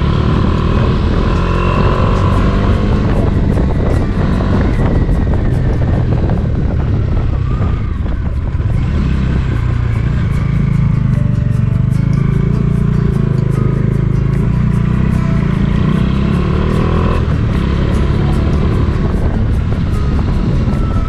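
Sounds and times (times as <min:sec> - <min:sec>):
background music: 0:00.0 - 0:21.0
motorcycle engine running: 0:00.0 - 0:21.0
road noise: 0:00.0 - 0:21.0.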